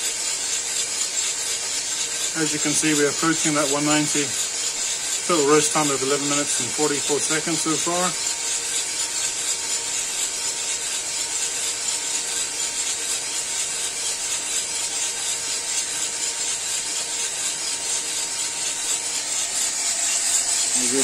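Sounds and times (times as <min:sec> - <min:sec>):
coffee roaster drum whirring: 0:00.0 - 0:21.0.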